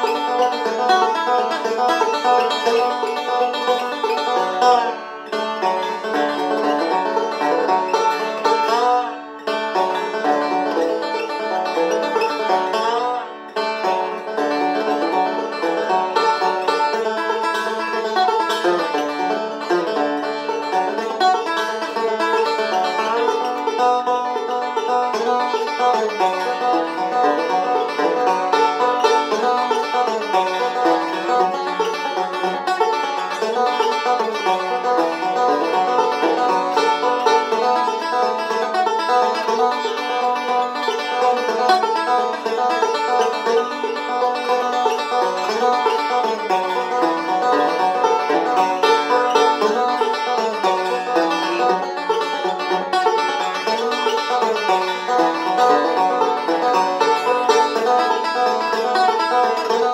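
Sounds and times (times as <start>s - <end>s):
banjo picking: 0.0s - 59.9s.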